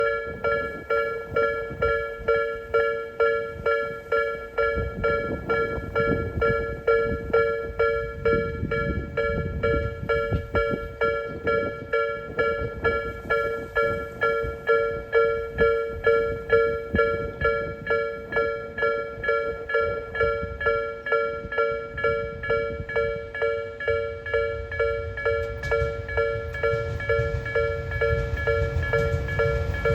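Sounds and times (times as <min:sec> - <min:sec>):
level-crossing alarm dinging: 0:00.0 - 0:29.9
train rumbling past: 0:00.0 - 0:29.9.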